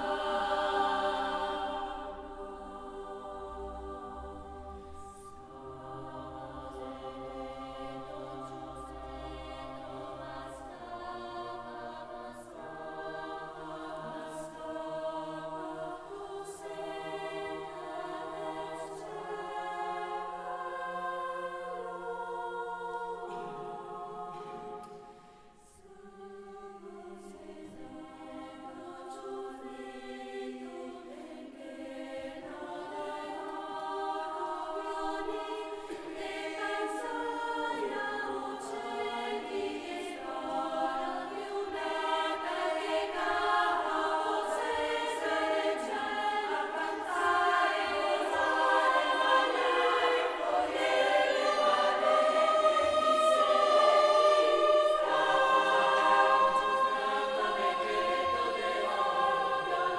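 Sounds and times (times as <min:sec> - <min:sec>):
women's choir singing a cappella: 0:00.0 - 0:59.9.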